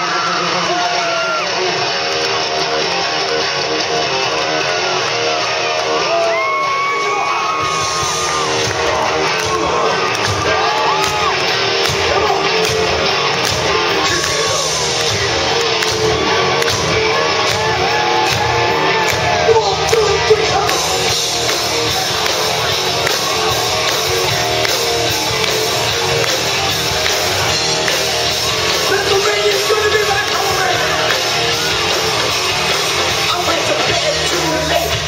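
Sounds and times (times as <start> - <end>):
drums: 0.0 - 35.0
electric guitars: 0.0 - 35.0.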